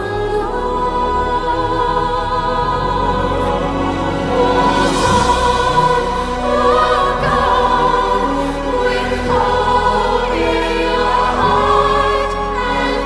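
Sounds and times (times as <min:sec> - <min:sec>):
choir singing long notes: 0:00.0 - 0:13.0
musical accompaniment: 0:00.0 - 0:13.0.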